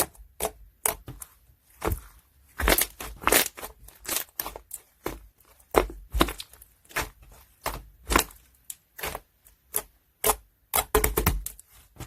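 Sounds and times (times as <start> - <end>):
slime popping: 1.8 - 11.6.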